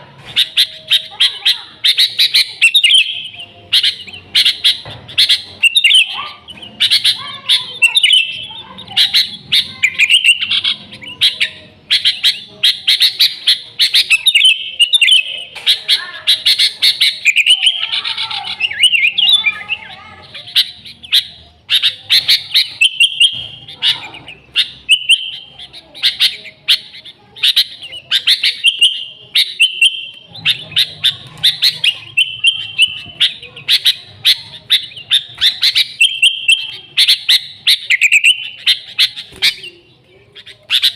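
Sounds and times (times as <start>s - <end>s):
bird chirping and warbling: 0.0s - 40.9s.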